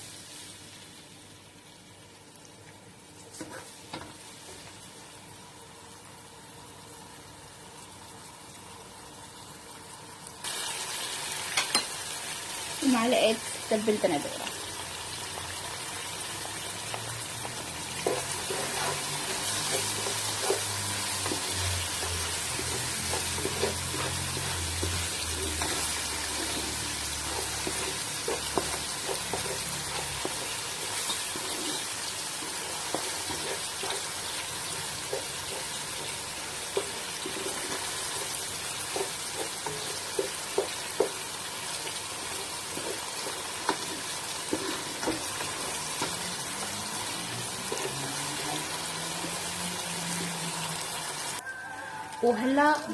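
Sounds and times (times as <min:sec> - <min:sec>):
vegetables sizzling in oil: 0:00.0 - 0:52.9.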